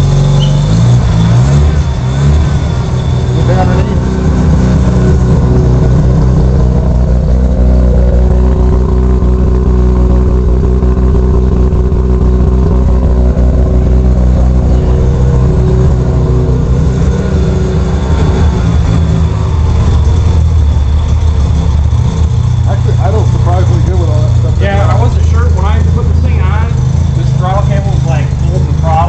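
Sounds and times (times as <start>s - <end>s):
rotary engine idling loudly: 0.0s - 29.0s.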